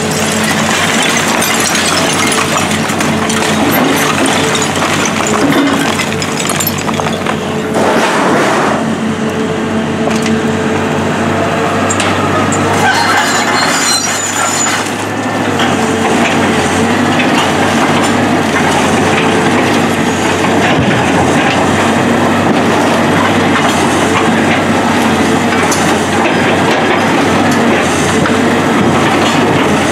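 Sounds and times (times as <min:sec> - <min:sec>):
rubble clattering and crunching: 0:00.0 - 0:08.4, 0:12.5 - 0:29.9
excavator diesel engine running: 0:00.0 - 0:29.9.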